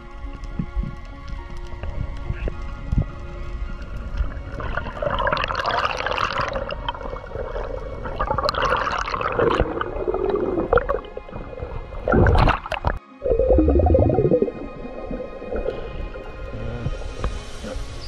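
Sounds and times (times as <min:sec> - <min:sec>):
underwater gurgling and bubbles: 0:00.0 - 0:18.0.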